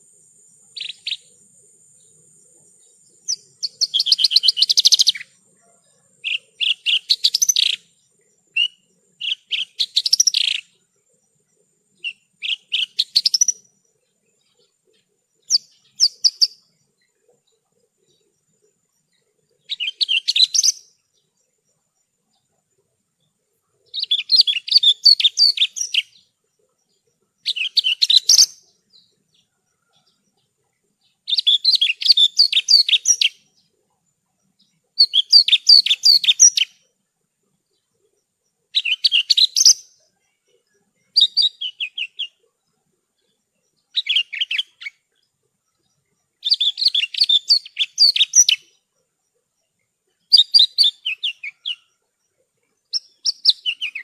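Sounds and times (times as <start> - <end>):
bushlark high chirping song: 0.0 - 54.0.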